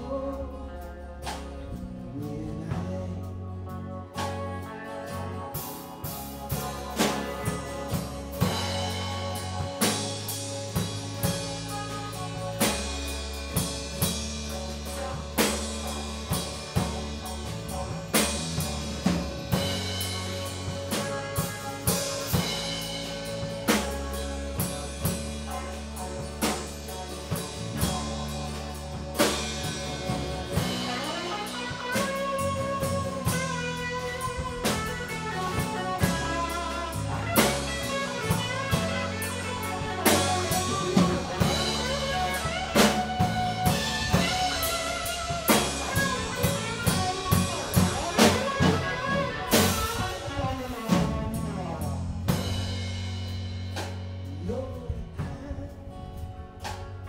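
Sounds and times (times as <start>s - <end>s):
lead guitar line bending pitch: 0.0s - 53.7s
live band playing instrumental: 0.0s - 57.0s.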